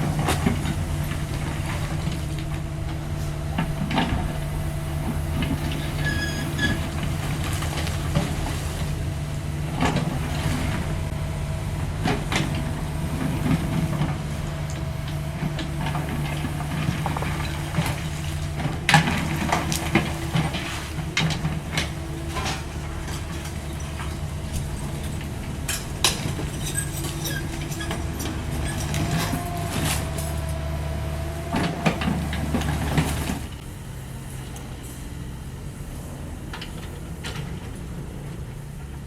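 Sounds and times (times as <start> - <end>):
hydraulic whine: 0.0 - 33.7
excavator diesel engine: 0.0 - 39.0.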